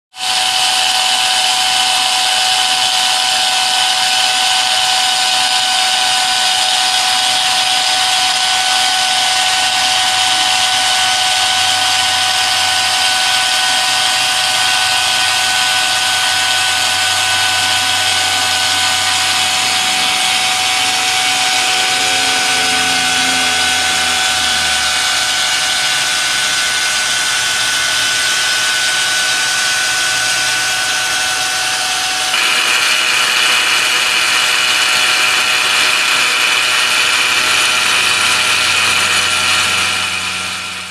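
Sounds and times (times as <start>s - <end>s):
machine high whine: 0.2s - 40.9s
lower motor note: 0.5s - 32.6s, 34.7s - 40.9s.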